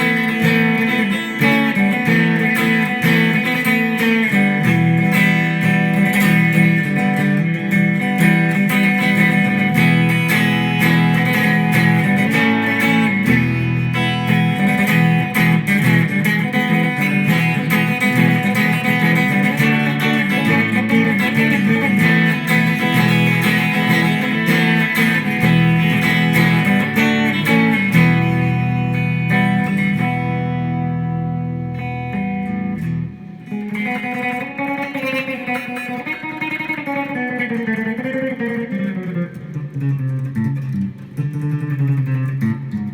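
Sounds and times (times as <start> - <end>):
guitar chords: 0.0 - 42.9.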